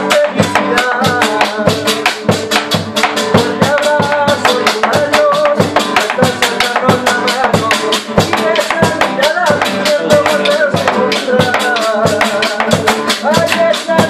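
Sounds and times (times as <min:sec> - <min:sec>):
bass drum beaten with sticks: 0:00.0 - 0:14.0
man singing: 0:00.0 - 0:14.0
strummed acoustic guitar: 0:00.0 - 0:14.0.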